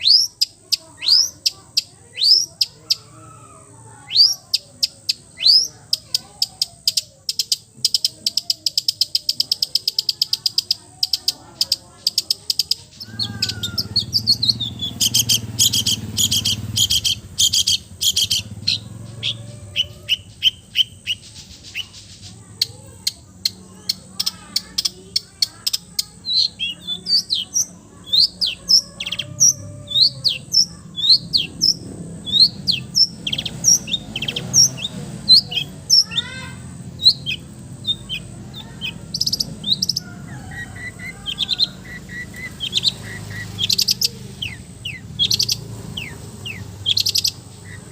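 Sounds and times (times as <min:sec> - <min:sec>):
bird singing mimicking song: 0:00.0 - 0:47.9.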